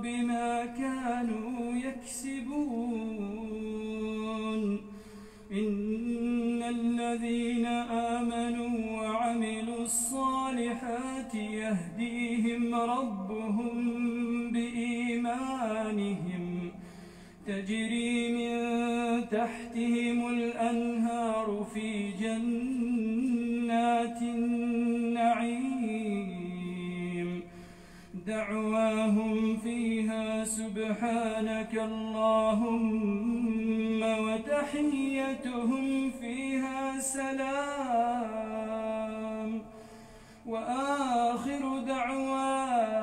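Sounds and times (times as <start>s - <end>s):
man chanting melodically: 0.0s - 4.9s, 5.5s - 16.8s, 17.4s - 27.5s, 28.1s - 39.8s, 40.4s - 43.0s.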